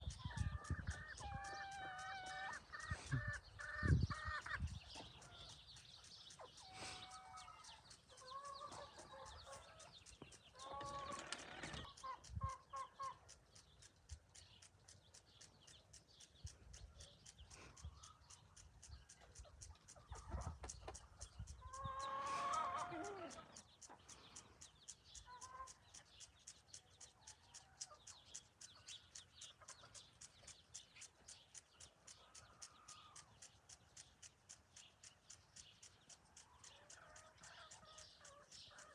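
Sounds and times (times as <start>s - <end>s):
hen clucking: 0.0s - 13.9s, 16.4s - 34.3s, 36.3s - 38.9s.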